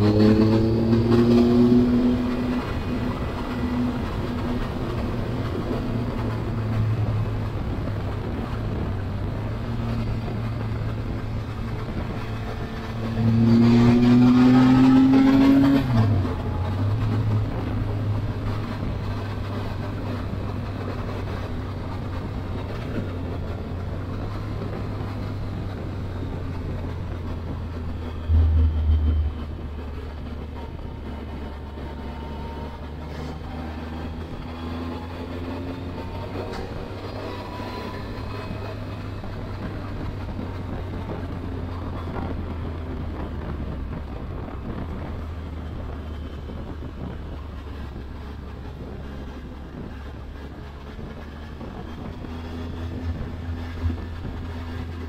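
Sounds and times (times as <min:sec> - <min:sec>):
motorcycle engine drone: 0:00.0 - 0:55.0
wind rumble: 0:00.0 - 0:55.0.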